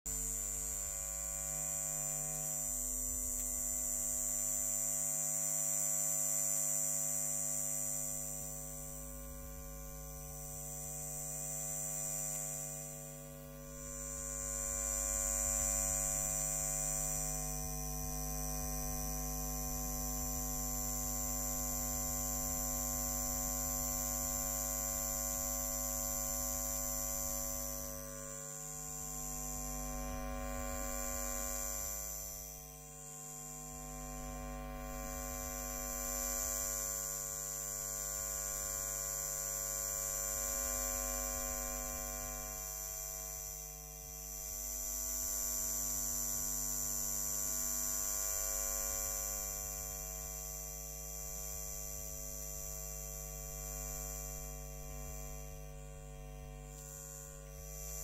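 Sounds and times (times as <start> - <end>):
high-voltage electrical hum: 0.1 - 58.0.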